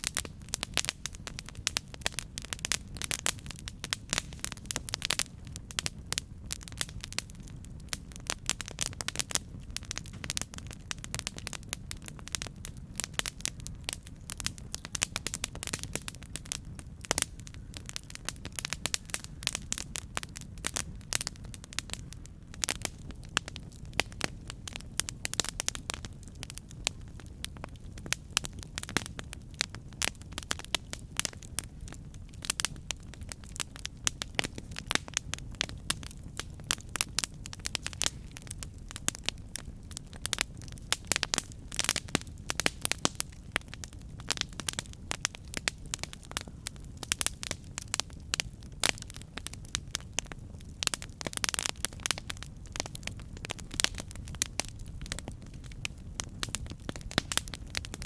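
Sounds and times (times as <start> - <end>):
campfire crackling: 0.0 - 58.0
low rumble of flames: 0.0 - 58.0.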